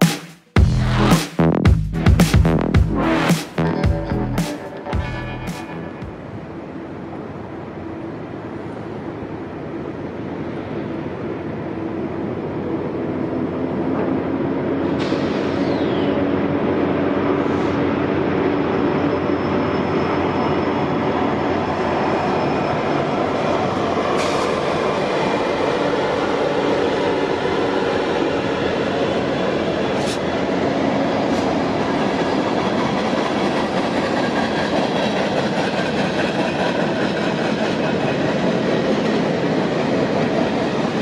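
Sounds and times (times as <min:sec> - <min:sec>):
diesel locomotives passing: 0:02.6 - 0:41.0.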